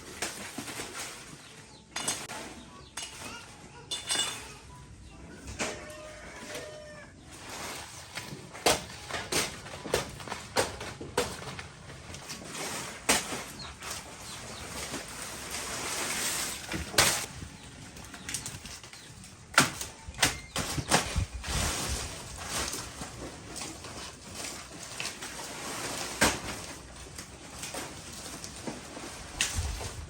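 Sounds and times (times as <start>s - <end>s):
rustling and scraping: 5.4s - 30.0s.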